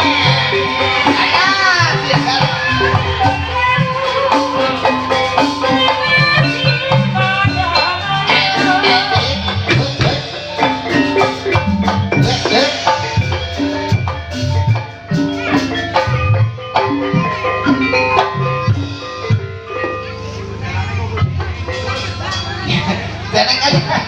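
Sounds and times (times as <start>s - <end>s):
mallet-struck pitched percussion: 0.0s - 24.0s
steady drumming: 0.0s - 24.0s.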